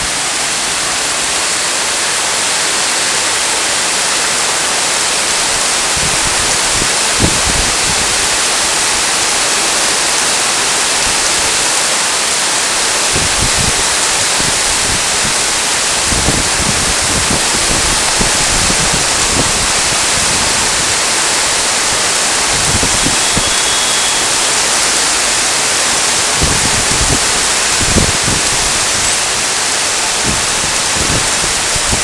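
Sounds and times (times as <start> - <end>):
heavy rain hissing: 0.0 - 32.0.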